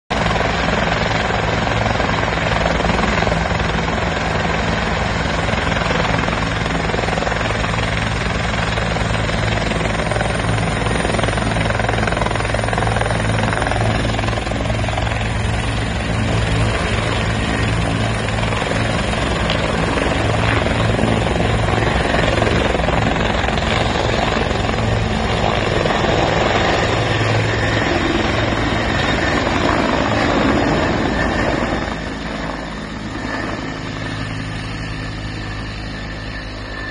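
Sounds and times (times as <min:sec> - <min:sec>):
helicopter rotor and turbine noise: 0:00.1 - 0:36.9.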